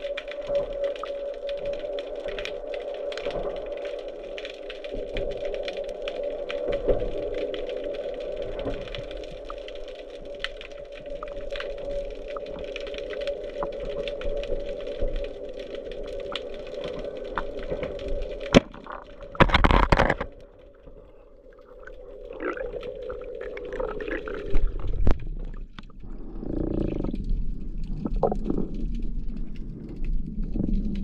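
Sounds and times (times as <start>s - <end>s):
rush of bubbles: 0.0s - 31.0s
steady underwater hum: 0.0s - 31.0s.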